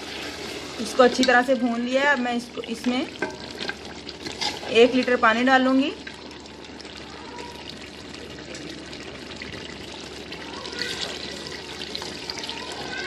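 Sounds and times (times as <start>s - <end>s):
water pouring into a pot: 0.0s - 13.0s.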